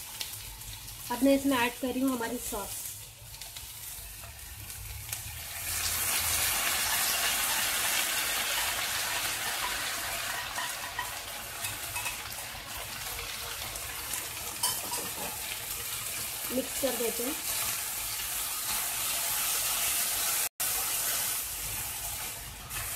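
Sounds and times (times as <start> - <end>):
sauce sizzling in a wok: 0.0 - 22.9.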